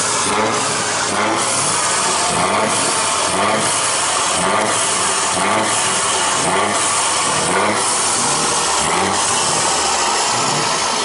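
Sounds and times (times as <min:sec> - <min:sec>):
loud exhaust rush: 0:00.0 - 0:11.0
truck engine revving: 0:00.0 - 0:11.0.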